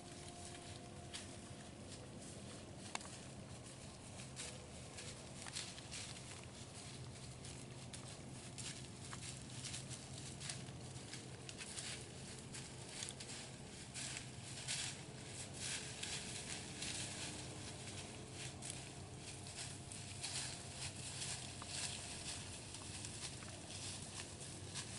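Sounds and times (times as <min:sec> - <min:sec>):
deer walking through dry leaves: 0:00.0 - 0:24.9.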